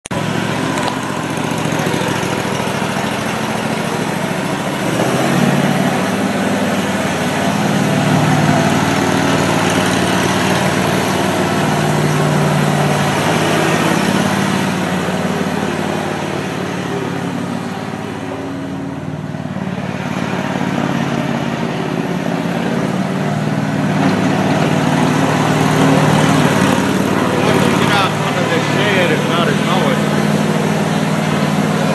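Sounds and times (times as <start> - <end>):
riding mower engine running: 0.0 - 31.9.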